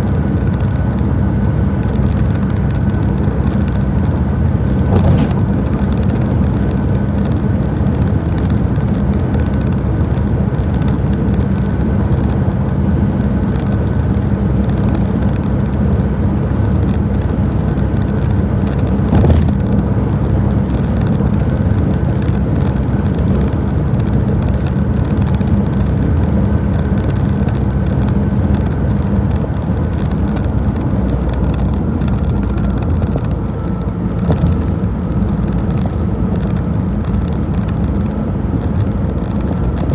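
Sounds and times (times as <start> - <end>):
car road and tyre noise: 0.0 - 39.9.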